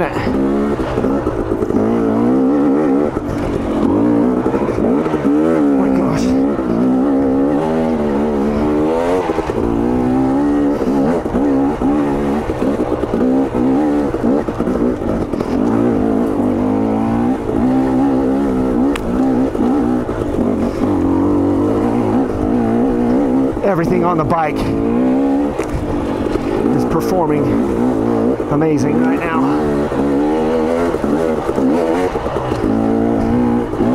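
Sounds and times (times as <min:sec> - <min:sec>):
dirt bike engine revving: 0:00.0 - 0:33.9.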